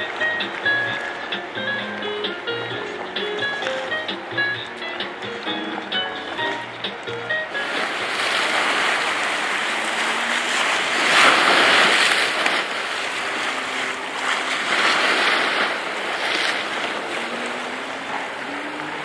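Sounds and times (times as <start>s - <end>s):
small waves washing ashore: 0.0s - 19.0s.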